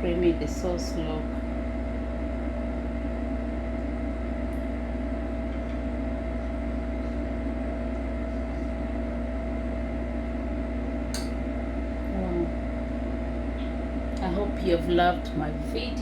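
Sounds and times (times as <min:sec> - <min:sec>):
appliance mechanical hum: 0:00.0 - 0:16.0.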